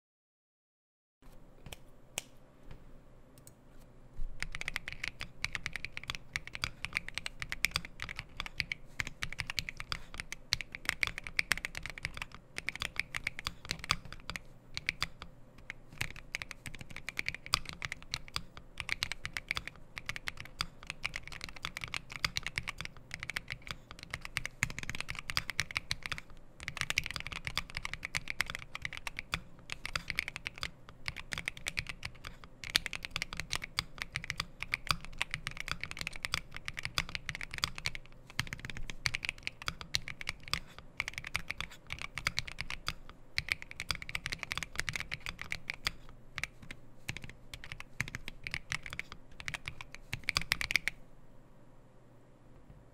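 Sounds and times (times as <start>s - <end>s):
mechanical keyboard typing: 4.4s - 51.0s.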